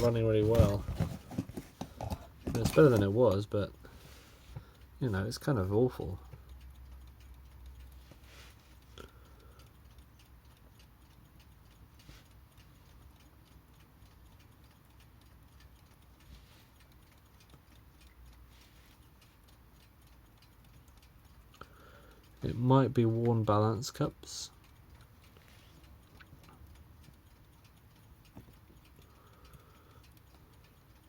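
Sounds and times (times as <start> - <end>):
alarm clock ticking faintly: 0.0 - 31.0.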